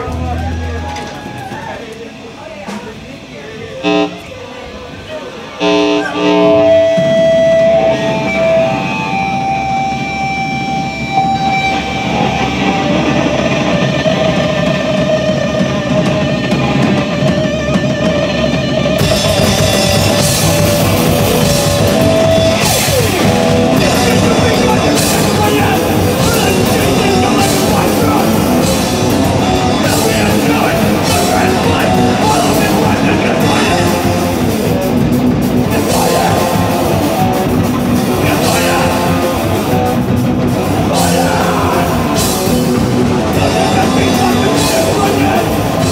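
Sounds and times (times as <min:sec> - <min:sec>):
drums and cymbals: 0:00.0 - 0:45.9
electric guitar ringing: 0:00.0 - 0:45.9
punk band playing: 0:00.0 - 0:45.9.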